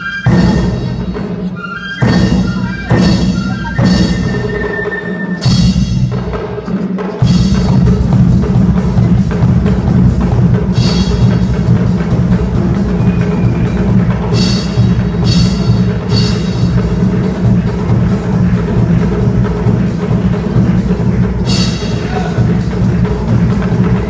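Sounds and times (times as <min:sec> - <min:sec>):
accented drum and band hits: 0:00.0 - 0:24.0
brass and percussion band playing: 0:00.0 - 0:24.0.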